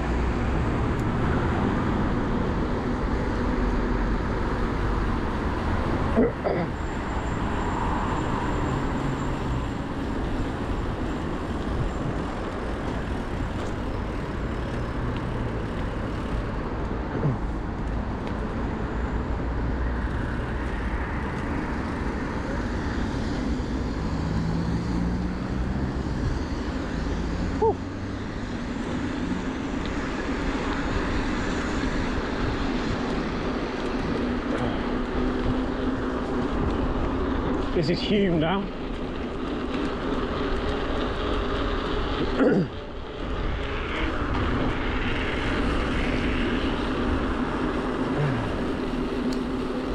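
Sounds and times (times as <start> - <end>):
road traffic noise: 0.0 - 49.9
vehicle engines humming past: 0.0 - 49.9.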